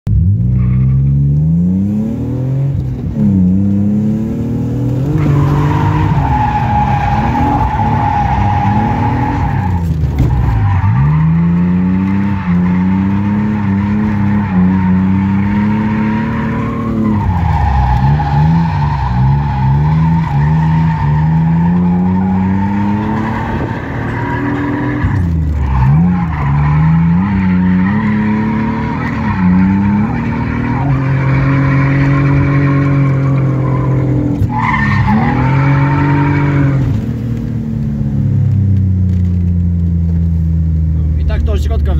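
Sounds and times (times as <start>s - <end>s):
car engine revving hard: 0.1s - 37.2s.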